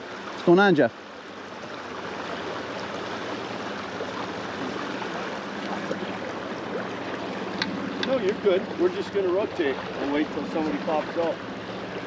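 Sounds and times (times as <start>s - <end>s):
river current flowing: 0.0s - 12.0s.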